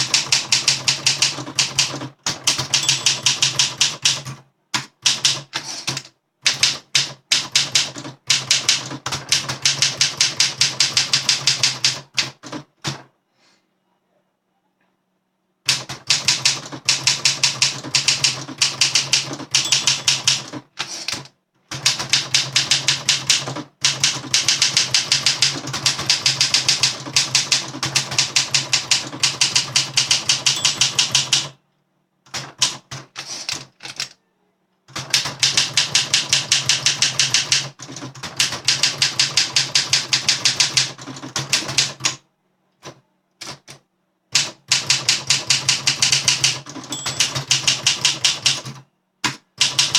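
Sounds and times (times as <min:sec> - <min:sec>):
manual typewriter typing: 0:00.0 - 0:13.0, 0:15.7 - 0:31.6, 0:32.3 - 0:34.2, 0:34.9 - 0:42.2, 0:44.4 - 0:49.9.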